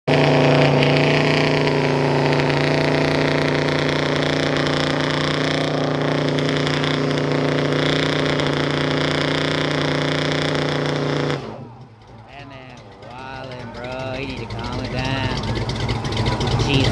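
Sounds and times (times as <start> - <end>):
truck engine revving steadily: 0.0 - 16.9
tyres spinning on pavement: 0.7 - 16.9.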